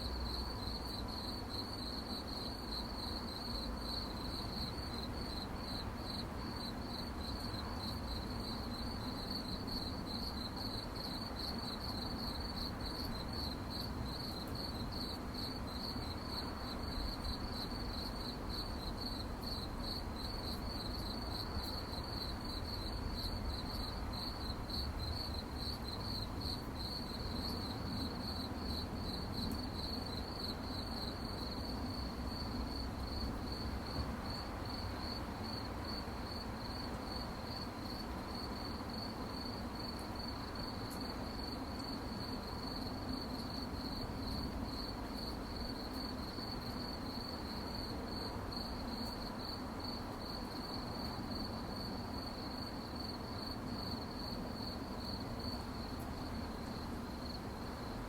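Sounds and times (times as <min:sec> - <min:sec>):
crickets chirping: 0:00.0 - 0:58.0
low steady hiss: 0:00.0 - 0:58.0.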